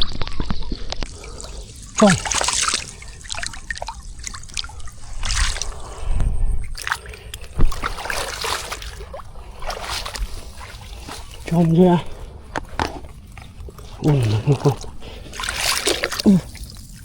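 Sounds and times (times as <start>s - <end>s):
water drips: 0.2s - 17.0s
water splashing and trickling: 0.2s - 17.0s.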